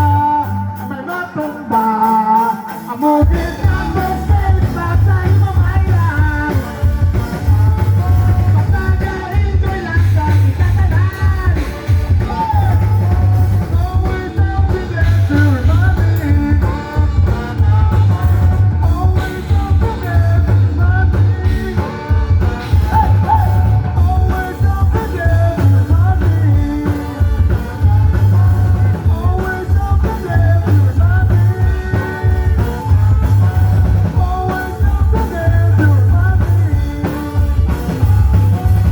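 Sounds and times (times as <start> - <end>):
heavy pulsing bass: 0.0 - 1.1, 3.2 - 38.9
drums: 0.0 - 38.9
lead singer singing: 0.0 - 38.9
rock band playing: 0.0 - 38.9.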